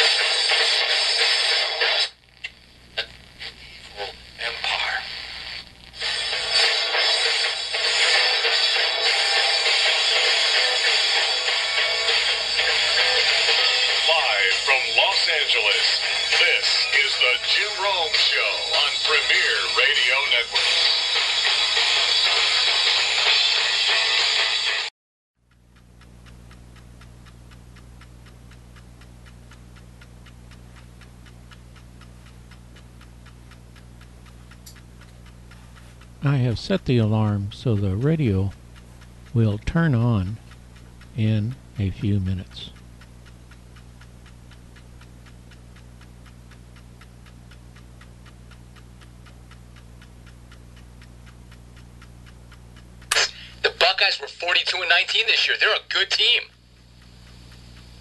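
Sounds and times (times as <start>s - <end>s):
low steady hum: 0.0s - 23.3s, 25.4s - 58.0s
clock ticking: 6.0s - 23.8s, 25.4s - 58.0s.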